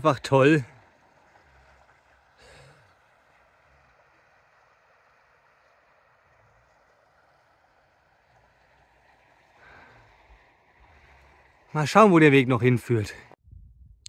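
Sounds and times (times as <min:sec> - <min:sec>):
faint outdoor hiss: 0:00.0 - 0:13.4.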